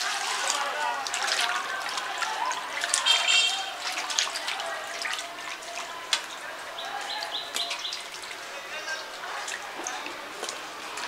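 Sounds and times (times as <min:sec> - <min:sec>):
water dripping: 0:00.0 - 0:11.0
water splashing in a steel bowl: 0:00.0 - 0:11.0.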